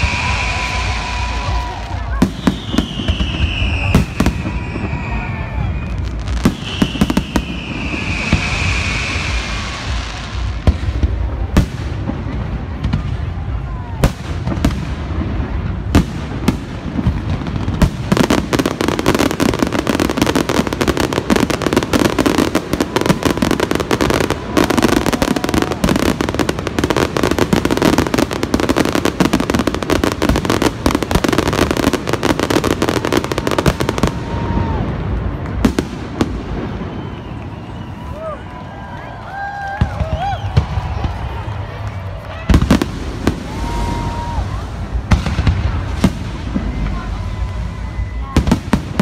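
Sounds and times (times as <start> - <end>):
fireworks booms and crackles: 0.0 - 49.0.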